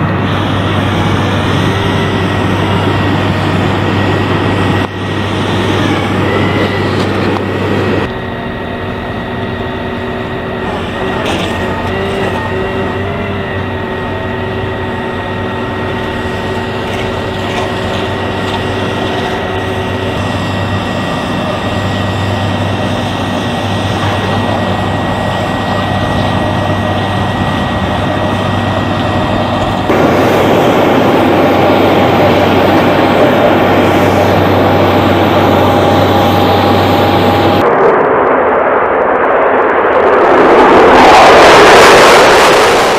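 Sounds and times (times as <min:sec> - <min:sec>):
jet engine running with whine: 0:00.0 - 0:42.9.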